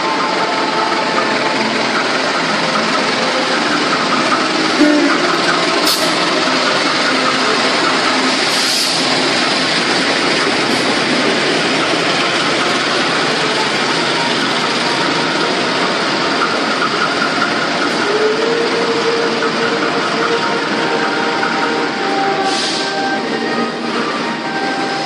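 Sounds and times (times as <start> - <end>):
train rolling past rumbling: 0.0 - 25.0.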